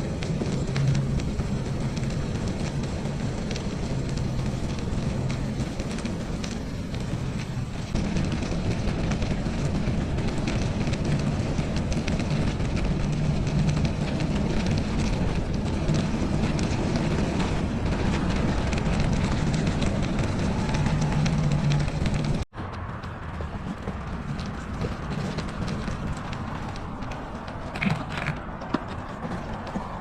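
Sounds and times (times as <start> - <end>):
tyres crackling on snow: 0.0 - 30.0.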